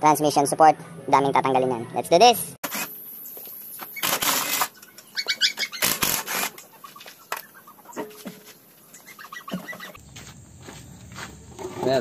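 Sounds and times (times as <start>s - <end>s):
birds chirping: 0.7s - 12.0s.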